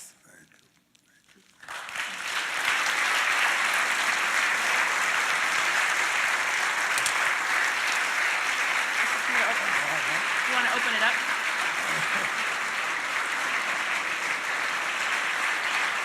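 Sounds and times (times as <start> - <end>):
audience applauding: 1.5 - 16.0.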